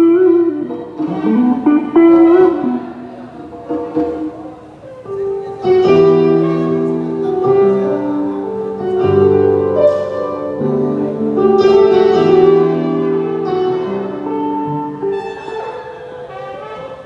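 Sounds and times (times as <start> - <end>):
electronic keyboard chords: 0.0 - 17.0.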